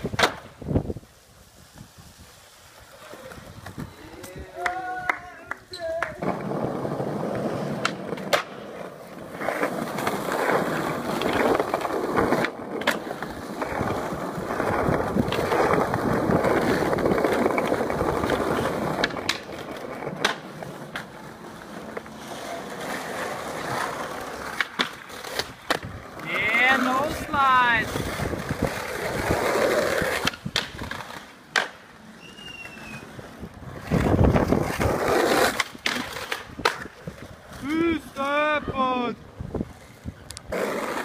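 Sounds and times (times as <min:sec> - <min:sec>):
skateboard clacks: 0:00.0 - 0:00.6, 0:03.0 - 0:37.5
skateboard wheels rolling on stone: 0:00.0 - 0:41.0.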